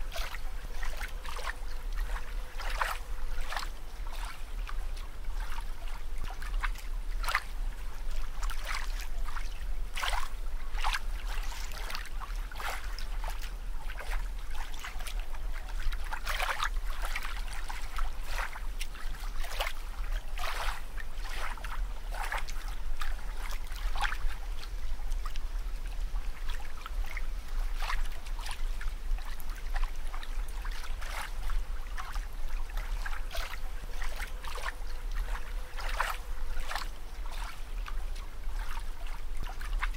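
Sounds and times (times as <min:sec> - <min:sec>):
steady low rumble: 0:00.0 - 0:39.9
water splashing and trickling: 0:00.0 - 0:39.9.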